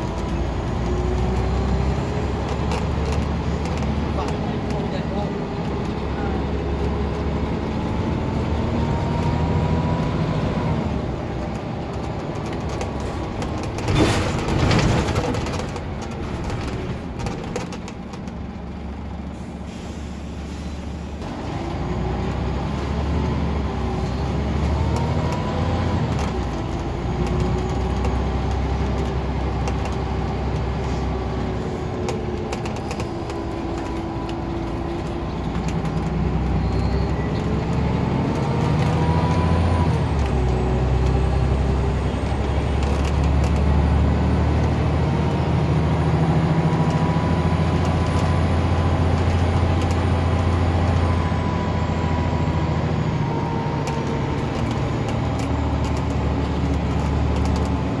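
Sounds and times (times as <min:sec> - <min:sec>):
bus engine and gearbox whine: 0:00.0 - 0:58.0.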